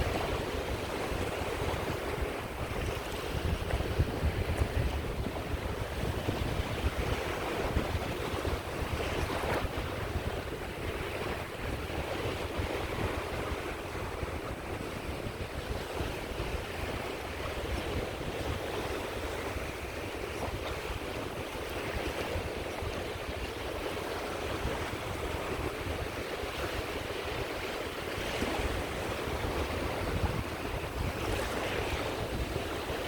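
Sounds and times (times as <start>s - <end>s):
waves washing on shore: 0.0s - 33.0s
wind buffeting microphone: 0.0s - 33.0s.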